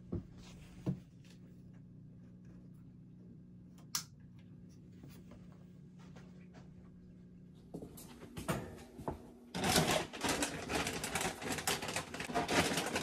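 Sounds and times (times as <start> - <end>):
aquarium low hum: 0.0 - 13.0.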